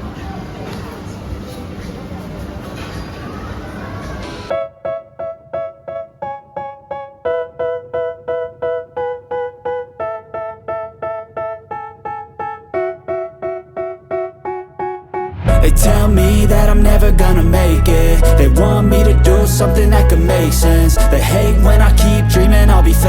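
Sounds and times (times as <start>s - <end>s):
piano keyboard chords: 4.0s - 23.0s.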